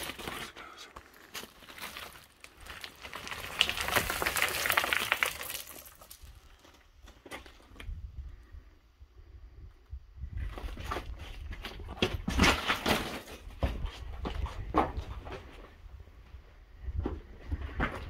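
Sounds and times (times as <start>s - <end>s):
footsteps on loose rock rubble: 0.0s - 8.1s, 10.3s - 15.9s, 16.8s - 18.0s.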